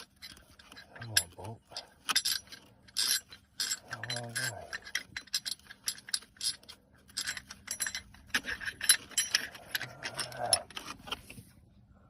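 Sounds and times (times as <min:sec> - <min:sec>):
metal tools clicking on bolt: 0:00.0 - 0:11.2.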